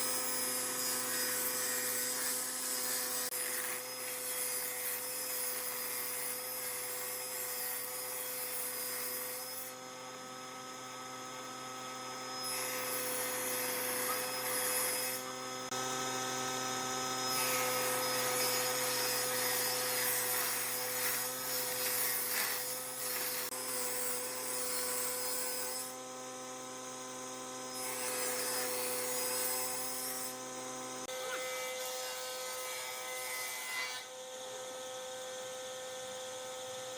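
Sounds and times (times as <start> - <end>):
power tool rasping wood: 0.0 - 26.0, 27.7 - 34.2.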